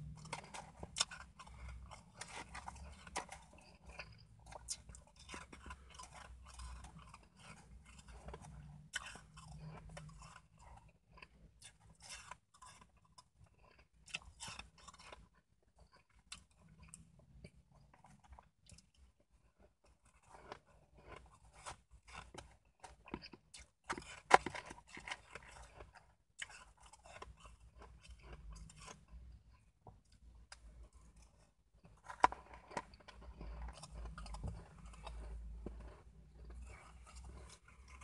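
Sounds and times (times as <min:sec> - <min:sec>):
chewing crunchy ice: 0:00.0 - 0:38.0.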